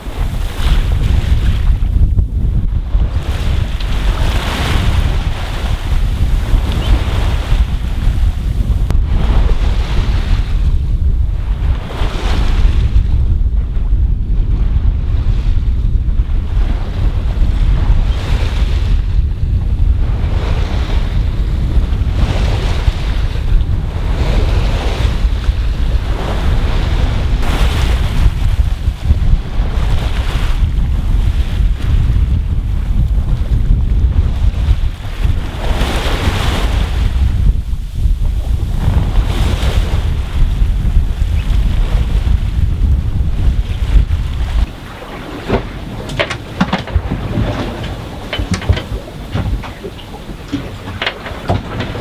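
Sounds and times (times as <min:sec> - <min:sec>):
sea rushing past hull: 0:00.0 - 0:52.0
wind buffeting microphone: 0:00.0 - 0:52.0.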